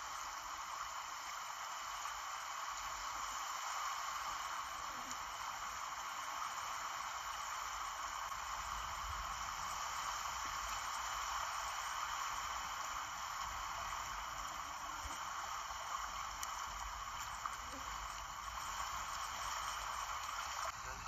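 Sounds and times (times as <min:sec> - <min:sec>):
small waves hissing: 0:00.0 - 0:21.0.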